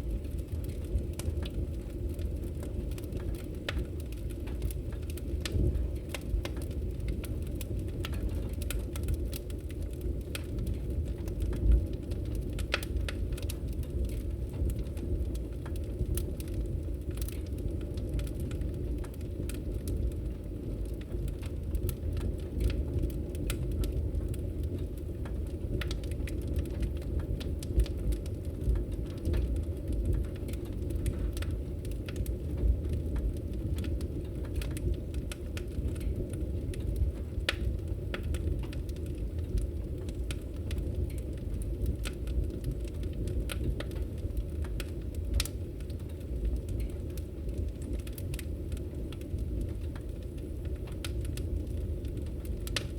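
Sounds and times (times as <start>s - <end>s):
fire snaps and pops: 0.0s - 52.9s
low rumble of flames: 0.0s - 52.9s
wood fire crackling: 0.0s - 52.9s.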